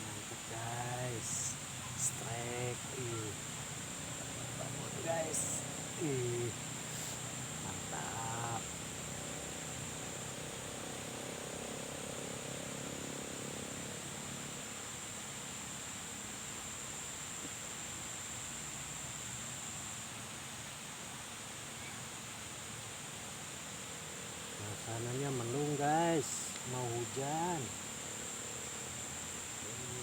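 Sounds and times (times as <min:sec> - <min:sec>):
faint low hum: 0:00.0 - 0:19.6, 0:21.6 - 0:30.0
high-pitched insect drone: 0:00.0 - 0:20.4, 0:21.2 - 0:30.0
outdoor hiss: 0:00.0 - 0:30.0.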